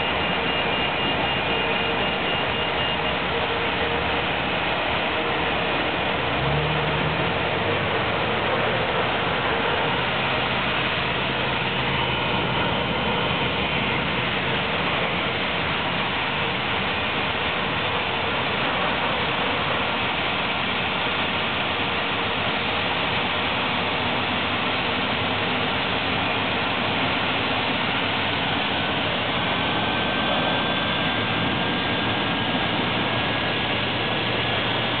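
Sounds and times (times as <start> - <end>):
aircraft engine roar: 0.0 - 35.0
faint high whine: 0.0 - 35.0.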